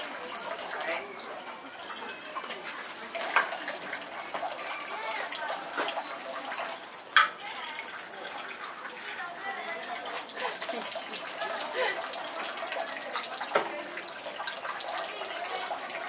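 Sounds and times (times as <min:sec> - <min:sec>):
water running and splashing: 0:00.0 - 0:16.0.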